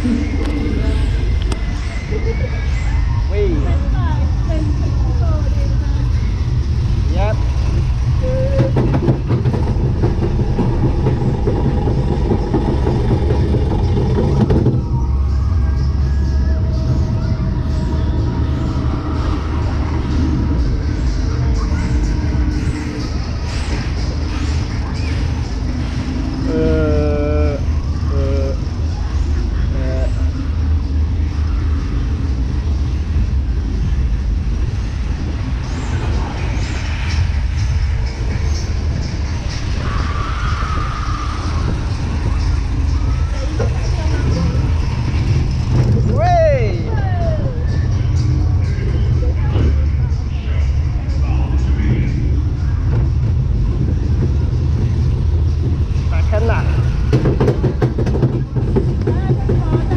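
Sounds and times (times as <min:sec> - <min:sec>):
roller coaster wheels rumbling: 0:00.0 - 0:59.9.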